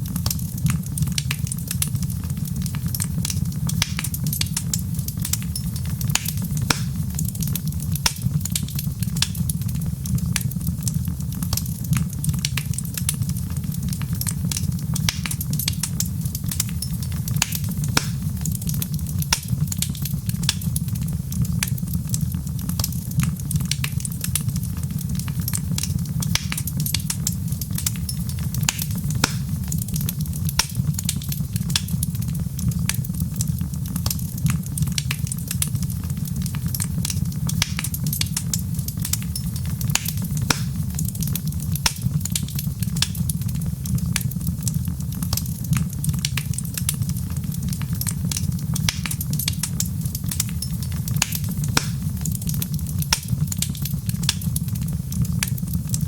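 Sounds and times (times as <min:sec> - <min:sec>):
fire crackling: 0:00.0 - 0:56.0
low rumble of burning logs: 0:00.0 - 0:56.0.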